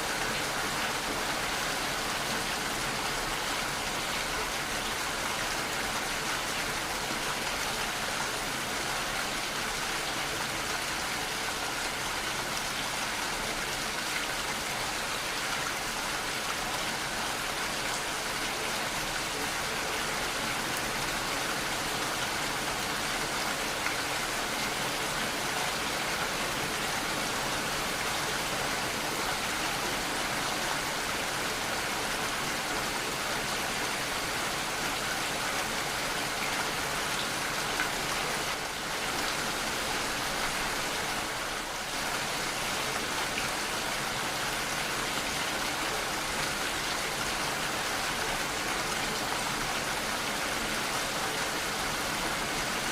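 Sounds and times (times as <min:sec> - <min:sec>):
steady rainfall hiss: 0:00.0 - 0:52.9.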